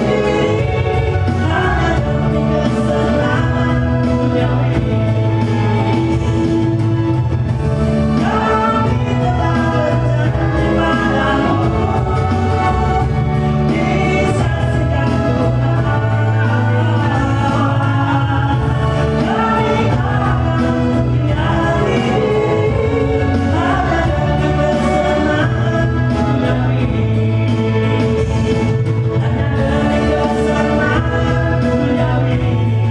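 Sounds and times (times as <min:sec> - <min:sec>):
group of singers: 0:00.0 - 0:32.9
instrumental backing with bass line: 0:00.0 - 0:32.9.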